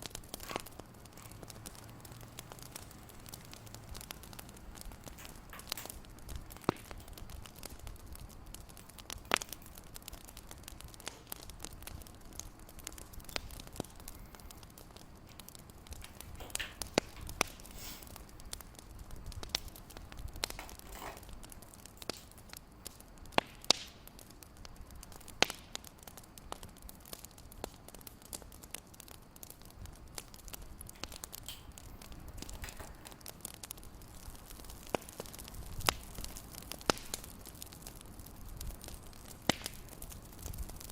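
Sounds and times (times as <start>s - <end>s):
fireplace crackling: 0.0s - 40.9s.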